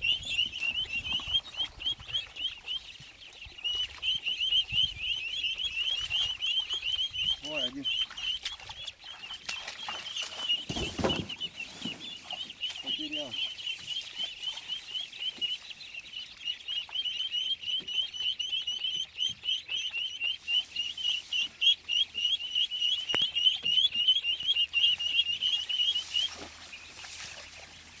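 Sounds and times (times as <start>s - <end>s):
ducklings peeping: 0.0s - 28.0s.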